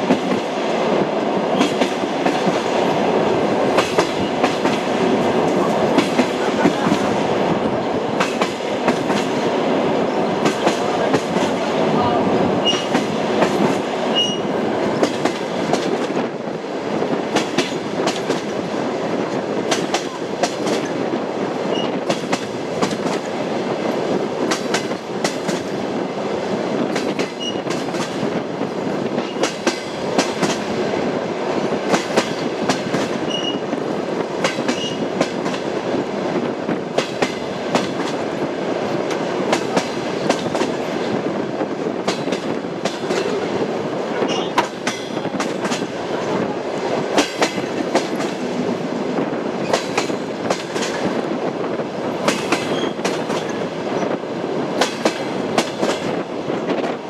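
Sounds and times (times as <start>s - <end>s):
rail car rumble: 0.0s - 57.0s
train wheels clickety-clack: 0.0s - 57.0s.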